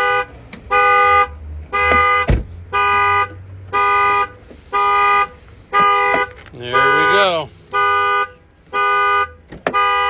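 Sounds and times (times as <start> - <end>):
car horn pulsing: 0.0 - 10.0.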